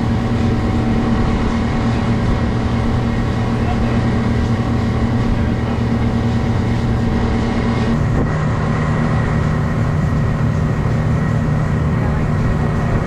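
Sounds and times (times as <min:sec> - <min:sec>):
outboard motor running: 0:00.0 - 0:13.0
rush of wind and water: 0:00.0 - 0:13.0.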